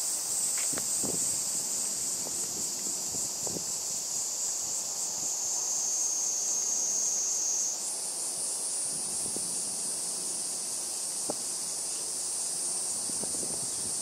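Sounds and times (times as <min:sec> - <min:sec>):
shrill insect chorus: 0:00.0 - 0:14.0.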